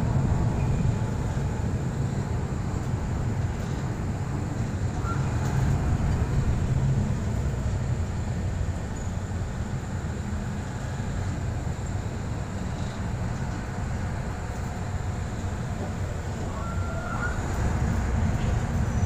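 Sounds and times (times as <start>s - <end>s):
diesel railcar rumbling: 0.0s - 19.0s.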